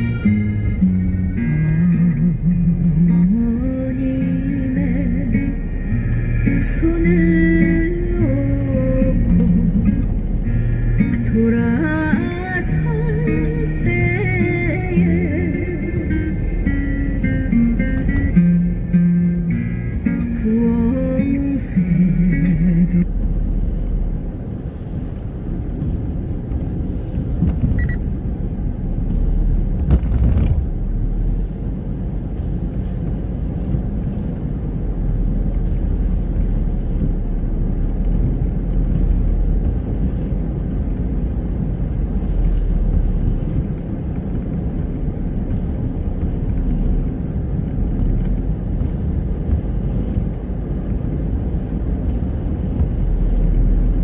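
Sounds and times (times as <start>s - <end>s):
tyres and engine rumble: 0.0s - 54.0s.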